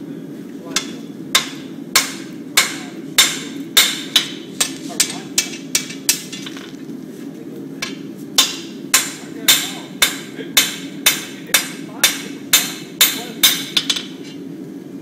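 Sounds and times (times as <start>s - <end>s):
hammer striking steel on anvil: 0.8s - 6.6s, 7.8s - 14.4s.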